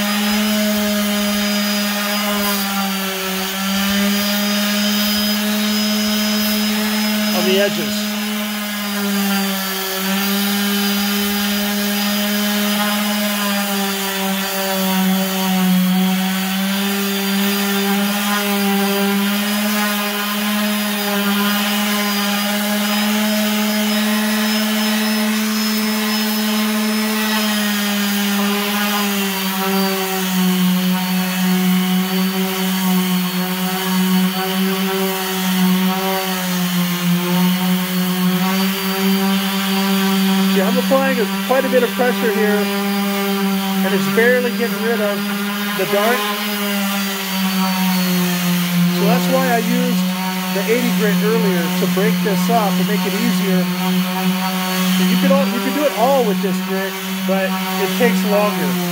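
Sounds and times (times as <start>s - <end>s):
orbital sander running: 0.0s - 58.9s
sanding hiss on wood: 0.0s - 58.9s.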